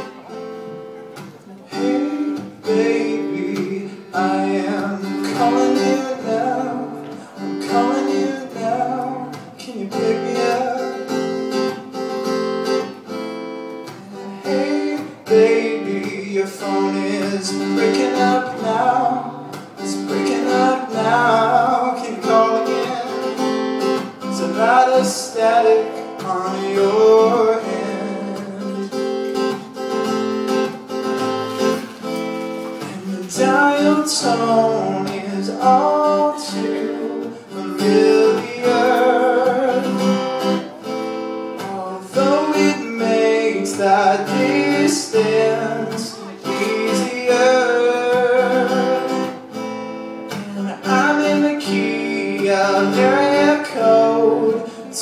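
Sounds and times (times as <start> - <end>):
acoustic guitar strumming: 0.0 - 55.0
man singing: 1.4 - 12.0, 13.9 - 30.3, 31.0 - 49.6, 50.3 - 55.0.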